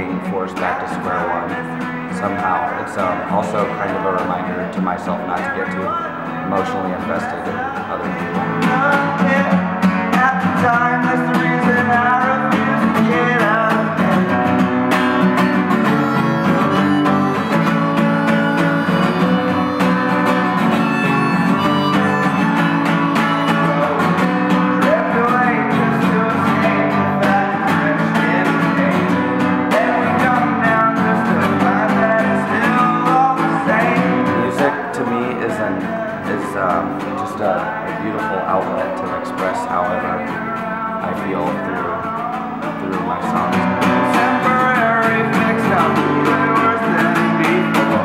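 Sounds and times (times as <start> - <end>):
acoustic guitar strumming: 0.0 - 48.0
harmonica melody: 0.0 - 48.0.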